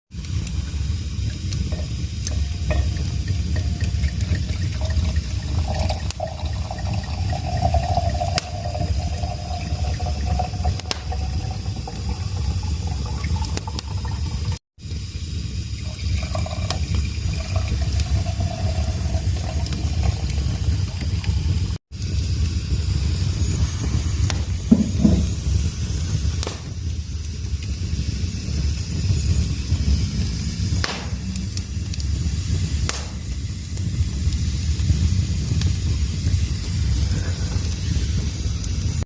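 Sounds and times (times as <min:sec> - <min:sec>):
fire crackling: 0:00.1 - 0:39.0
fire flames rumbling: 0:00.1 - 0:39.0.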